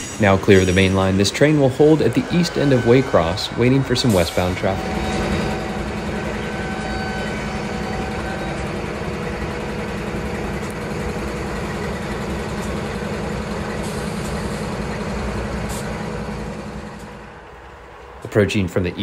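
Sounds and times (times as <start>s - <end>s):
model locomotive engine drone: 0.0s - 19.0s.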